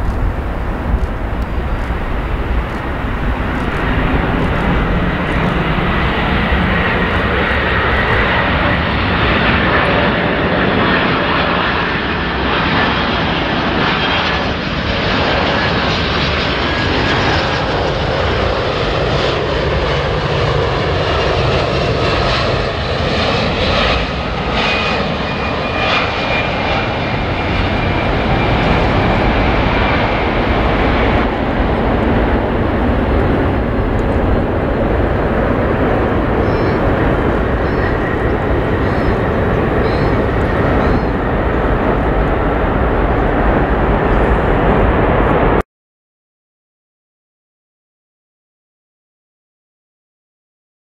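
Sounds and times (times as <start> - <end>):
jet engines rumbling and whining: 0.0 - 45.6.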